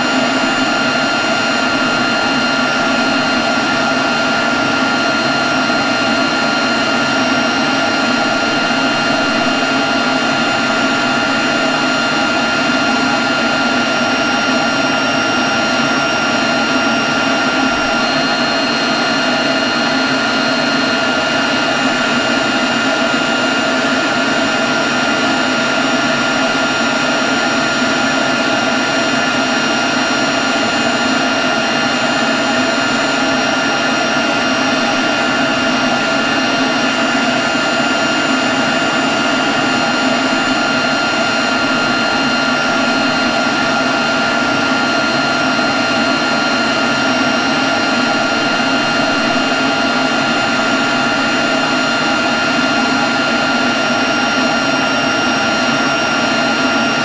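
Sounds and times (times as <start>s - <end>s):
leaf blower running: 0.0s - 57.0s.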